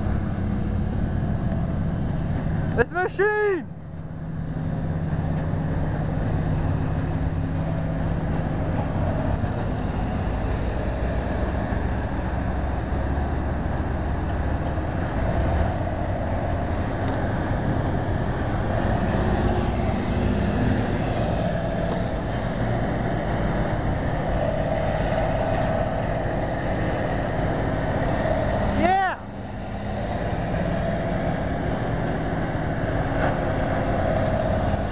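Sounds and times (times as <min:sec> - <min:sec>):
wood chipper running: 0:00.0 - 0:34.9.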